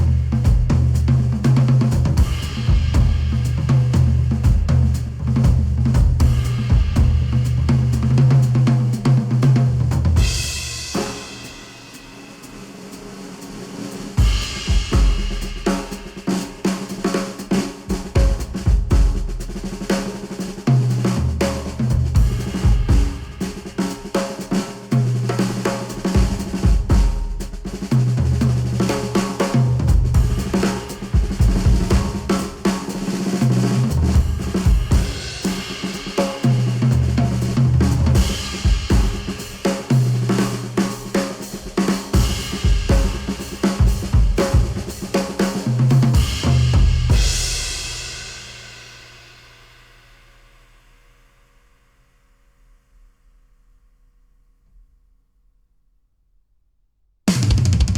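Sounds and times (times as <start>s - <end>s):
drum kit playing: 0.0s - 49.4s, 57.3s - 57.9s.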